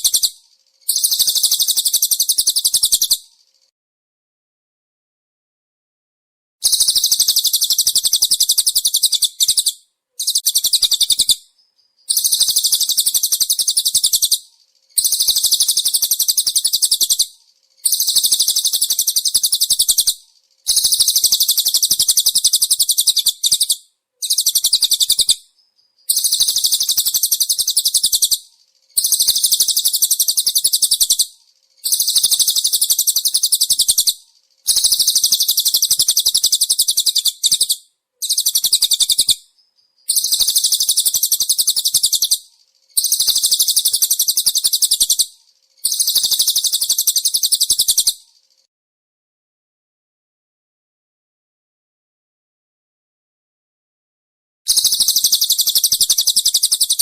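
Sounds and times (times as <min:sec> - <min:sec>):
bird twittering song: 0:00.0 - 0:03.7, 0:06.6 - 0:48.7, 0:54.7 - 0:57.0.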